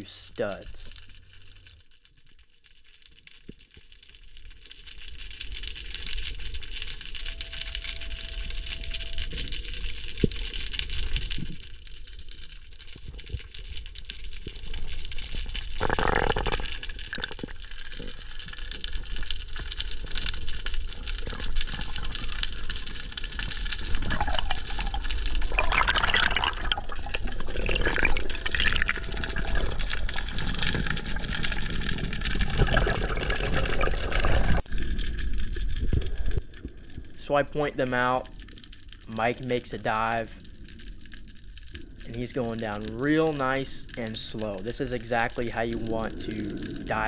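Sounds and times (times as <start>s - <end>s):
underwater water rushing and bubbling: 3.9s - 39.0s, 40.4s - 47.0s.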